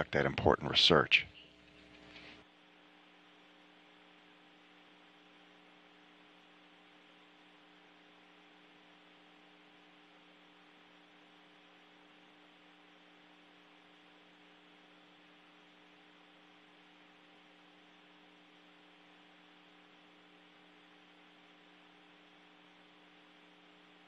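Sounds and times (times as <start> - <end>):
faint steady hum with hiss: 0.0 - 24.0.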